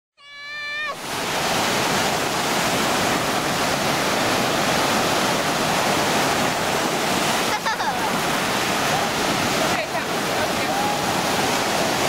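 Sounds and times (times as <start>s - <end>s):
waves washing in shallows: 0.5s - 12.0s.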